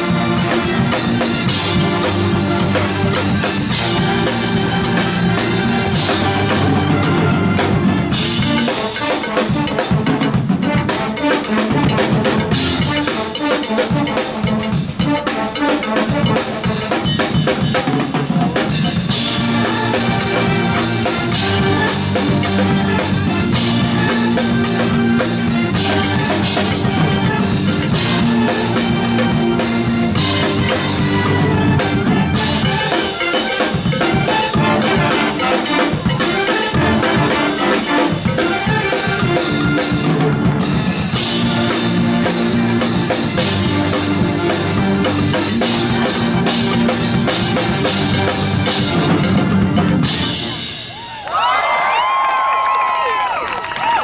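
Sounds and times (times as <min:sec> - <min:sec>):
wind band playing: 0:00.0 - 0:51.1
drums beating: 0:00.0 - 0:54.0.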